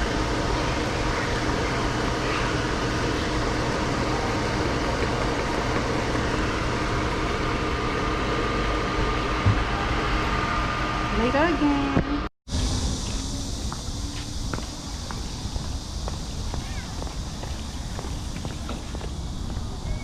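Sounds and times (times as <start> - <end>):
cooker humming and hissing: 0.0 - 20.0.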